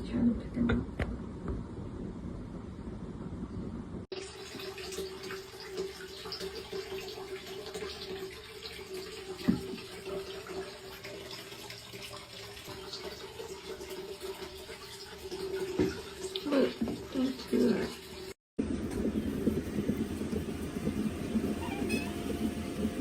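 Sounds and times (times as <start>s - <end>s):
water running: 4.1s - 23.0s.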